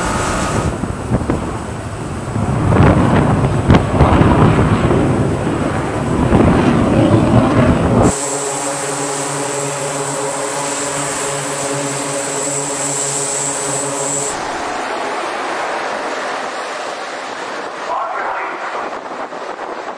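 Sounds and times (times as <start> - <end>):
rumbling rush of wind: 0.0 - 19.9
turboprop engines droning: 0.0 - 19.9.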